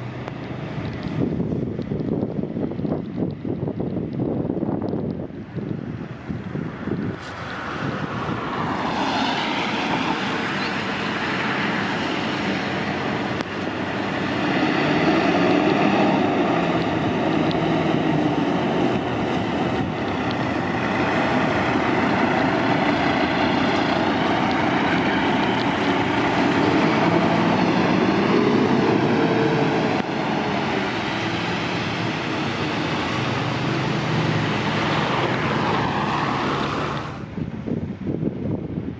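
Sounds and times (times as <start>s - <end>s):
heavy engine: 0.0s - 38.9s.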